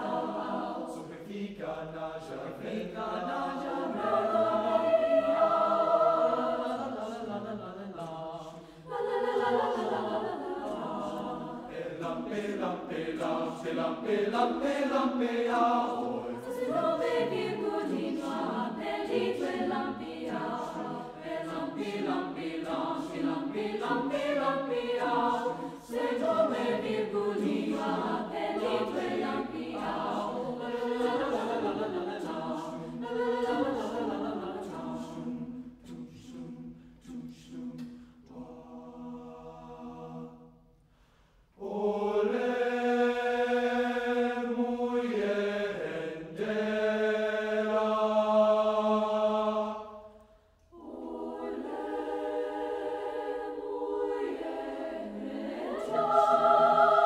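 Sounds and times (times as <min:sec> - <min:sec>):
mixed choir singing: 0:00.0 - 0:40.7, 0:41.5 - 0:57.0.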